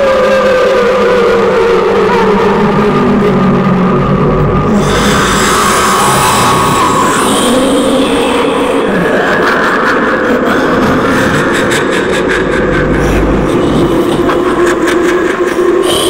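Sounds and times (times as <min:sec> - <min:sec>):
droning noise bed: 0:02.4 - 0:16.0
low rumble: 0:02.4 - 0:16.0.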